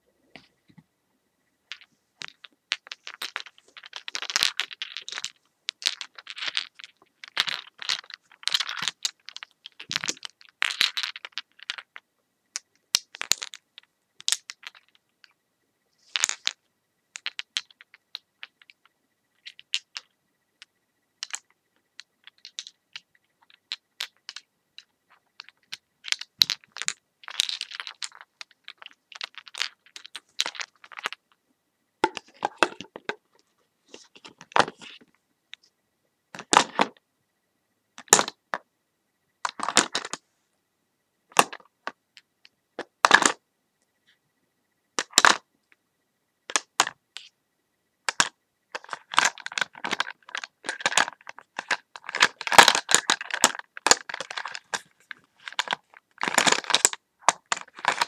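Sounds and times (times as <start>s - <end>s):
crackles clicks and scratches: 1.7s - 12.0s, 12.6s - 15.4s, 17.2s - 31.4s, 32.0s - 37.0s, 38.0s - 38.6s, 39.4s - 40.2s, 41.3s - 44.2s, 45.0s - 45.8s, 46.5s - 47.4s, 48.0s - 58.0s.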